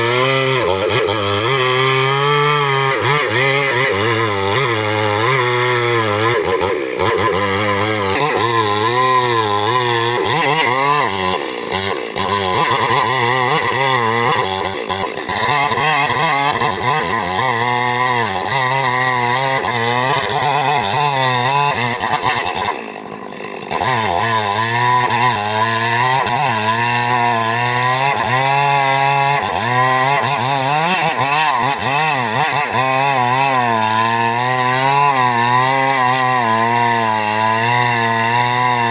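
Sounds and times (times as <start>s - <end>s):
chainsaw running loudly: 0.0s - 38.9s.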